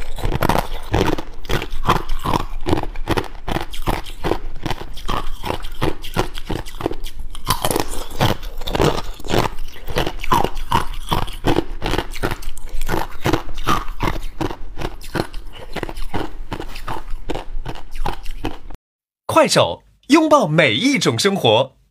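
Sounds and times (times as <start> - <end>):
ice crunching being chewed: 0.0 - 18.8.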